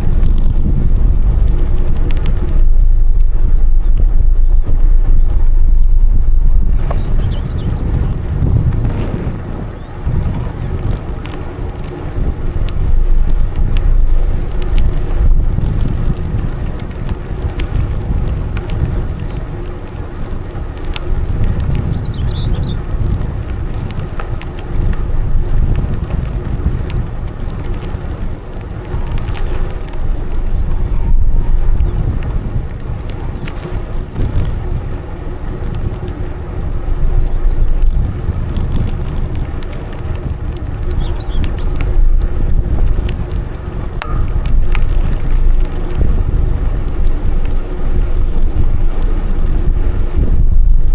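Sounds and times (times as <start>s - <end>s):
bicycle tyres rolling: 0.0s - 50.9s
wind buffeting microphone: 0.0s - 50.9s.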